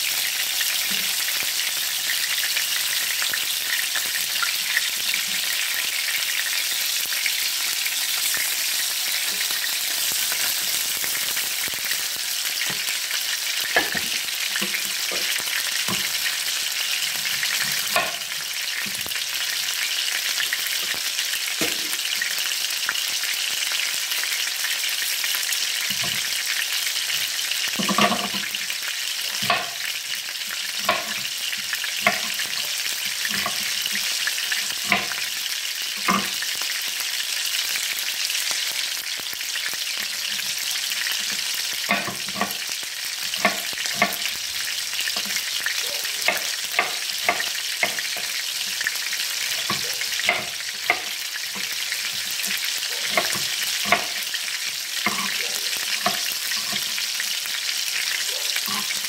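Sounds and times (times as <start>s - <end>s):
meatballs sizzling in oil: 0.0s - 59.0s.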